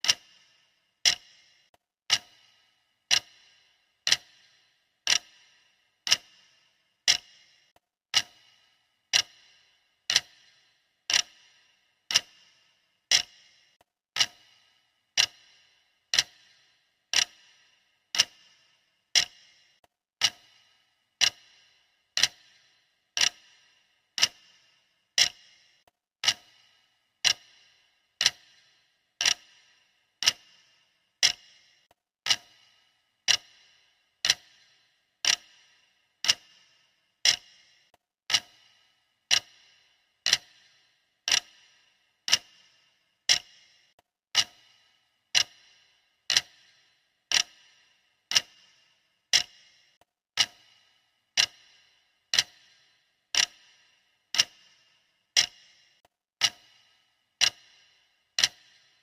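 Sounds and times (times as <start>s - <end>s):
sharp clock ticks: 0.0s - 59.0s.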